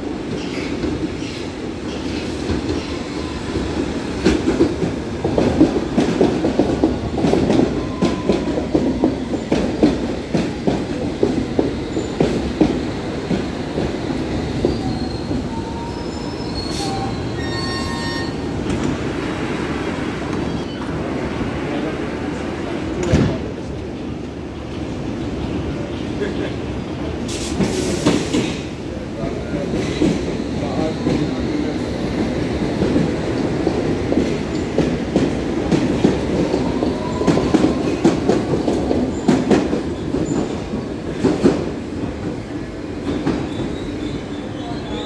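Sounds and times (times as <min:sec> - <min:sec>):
train rumbling into platform: 0:00.0 - 0:45.0.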